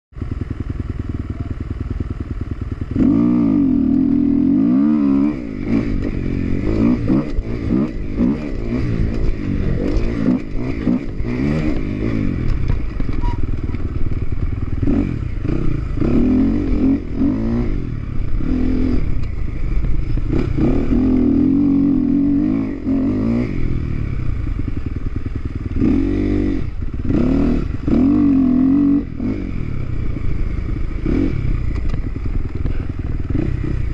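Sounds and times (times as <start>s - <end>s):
dirt bike engine revving: 1.5s - 33.9s.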